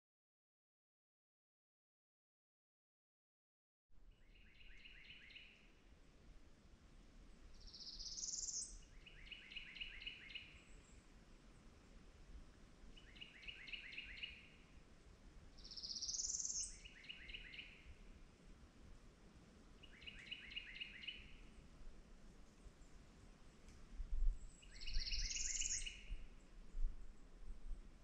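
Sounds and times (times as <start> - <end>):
faint background hiss: 4.0 - 28.0.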